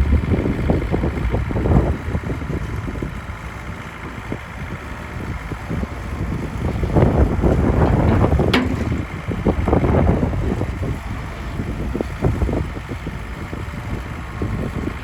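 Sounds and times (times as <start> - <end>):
excavator diesel engine running: 0.0 - 15.0
wind on microphone: 0.0 - 15.0.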